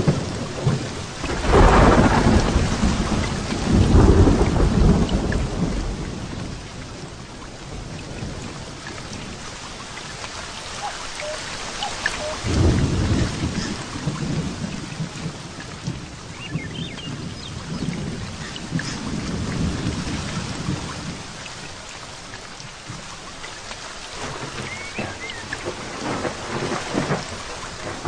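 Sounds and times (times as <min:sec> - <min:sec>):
rolling thunder: 0:00.0 - 0:09.6, 0:10.4 - 0:21.4, 0:24.2 - 0:28.0
heavy rain falling: 0:00.0 - 0:28.0.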